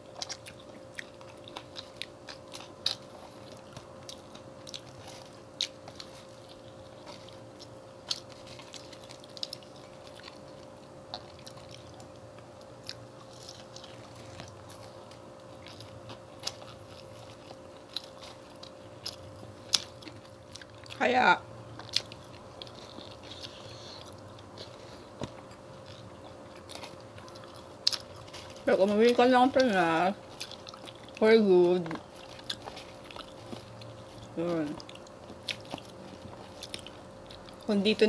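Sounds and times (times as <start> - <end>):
chewing fried food: 0.0 - 38.0
faint steady hum: 0.0 - 38.0.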